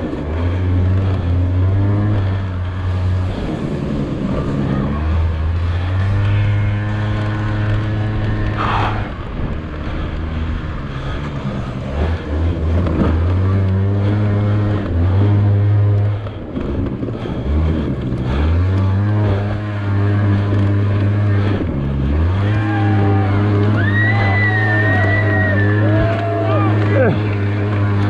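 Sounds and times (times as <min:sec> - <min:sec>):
small scooter engine revving: 0:00.0 - 0:28.0.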